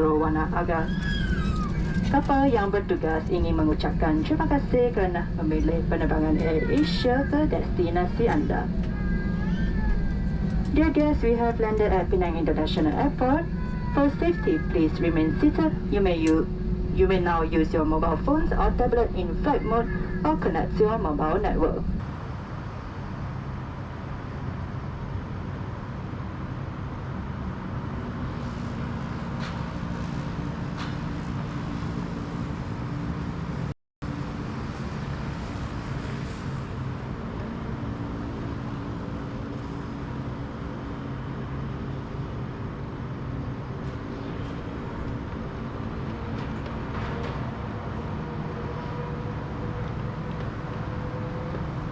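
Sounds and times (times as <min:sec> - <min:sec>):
airliner cabin engine hum: 0:00.0 - 0:51.9.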